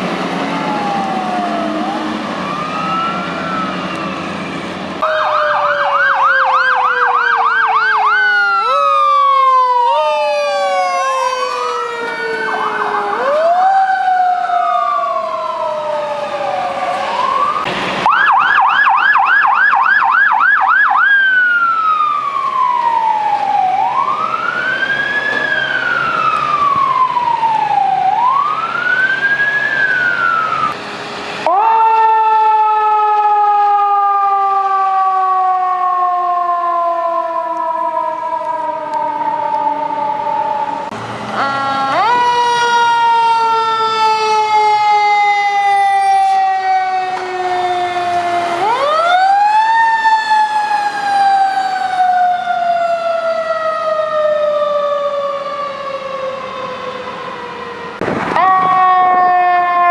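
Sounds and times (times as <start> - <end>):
siren tone sliding down: 0.0 - 59.9
electronic siren yelp and wail: 0.3 - 30.8, 31.4 - 59.9.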